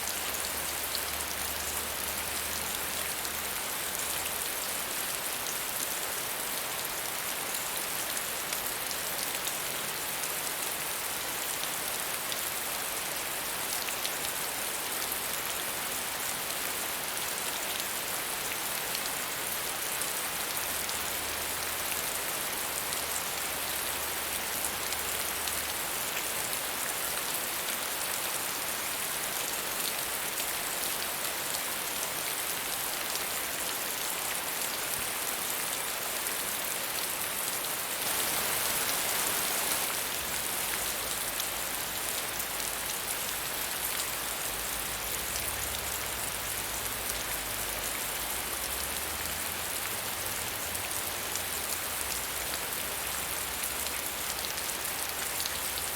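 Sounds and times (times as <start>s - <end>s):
steady rain hiss: 0.0s - 55.9s.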